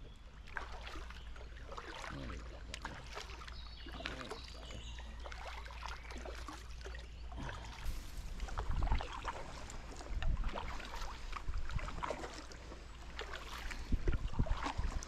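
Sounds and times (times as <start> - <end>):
paddle splashing in water: 0.4 - 15.0.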